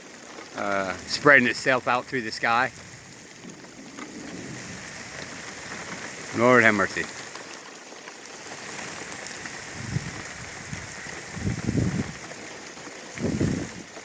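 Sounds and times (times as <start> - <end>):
rain pattering on a car: 0.0 - 14.0
low thunder rumbles: 0.5 - 7.7, 8.3 - 14.0.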